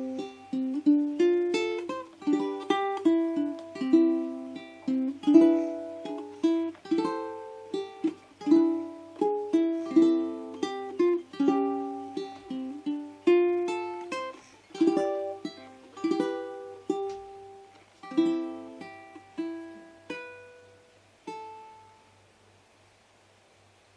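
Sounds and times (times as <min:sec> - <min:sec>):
ukulele plucked notes and chords: 0:00.0 - 0:22.2.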